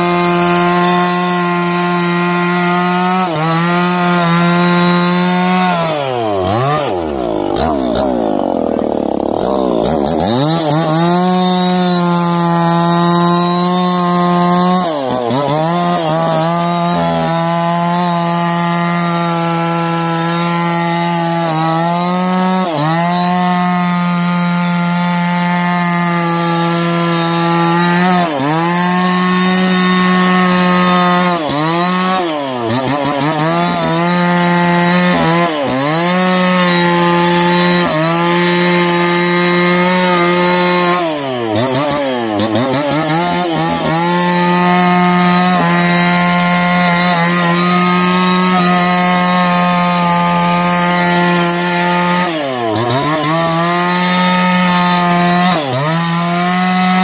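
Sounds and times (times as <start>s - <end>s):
chainsaw running at high revs: 0.0s - 57.0s.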